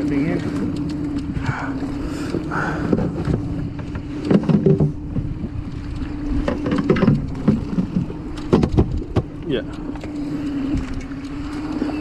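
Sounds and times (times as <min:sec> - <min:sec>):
boat motor idling: 0:00.0 - 0:12.0
wind on microphone: 0:00.0 - 0:12.0.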